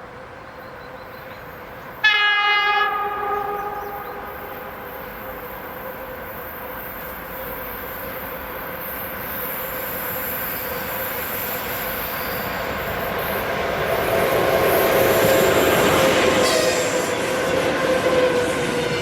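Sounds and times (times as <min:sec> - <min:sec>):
train rumbling with whining tones: 0:00.0 - 0:19.0.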